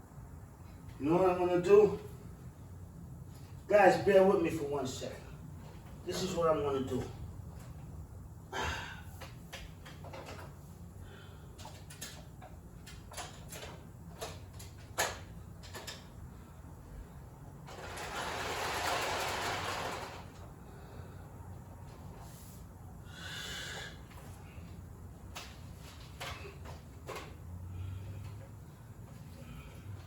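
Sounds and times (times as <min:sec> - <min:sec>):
steady low hum: 0:00.0 - 0:18.0, 0:20.2 - 0:30.0.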